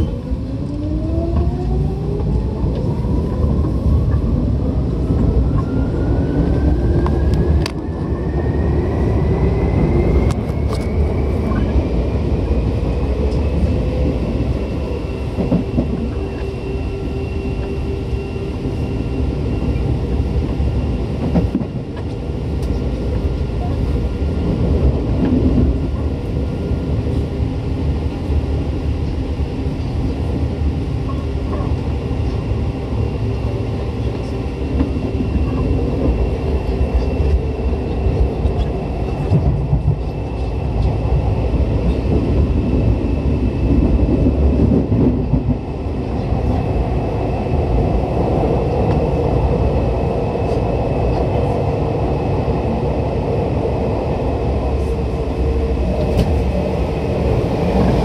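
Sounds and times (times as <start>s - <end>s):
train wheel and motor noise: 0.0s - 58.0s.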